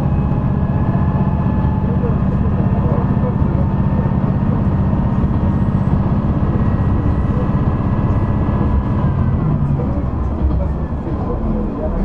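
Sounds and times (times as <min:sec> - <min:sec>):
diesel engine drone: 0:00.0 - 0:12.0
train rolling noise: 0:00.0 - 0:12.0.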